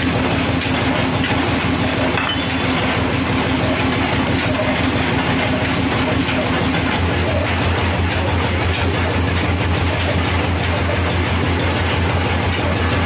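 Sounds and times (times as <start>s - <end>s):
band saw running: 0.0s - 13.0s.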